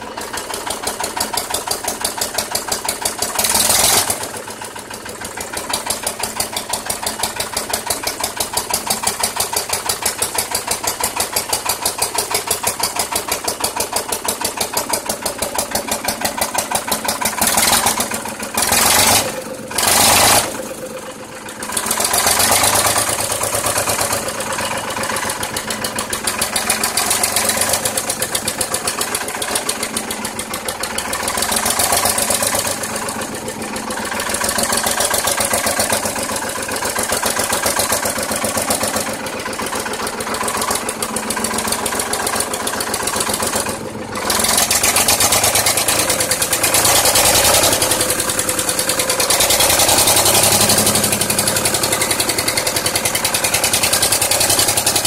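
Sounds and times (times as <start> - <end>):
diesel engine knocking: 0.0 - 55.0.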